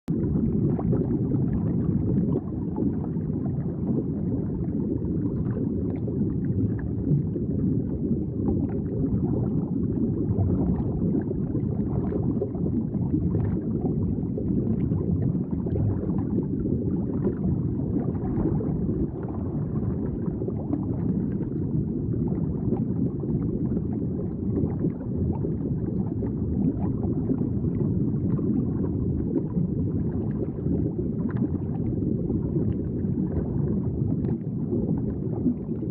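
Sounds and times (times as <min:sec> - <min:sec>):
aquarium water bubbling: 0:00.1 - 0:35.9.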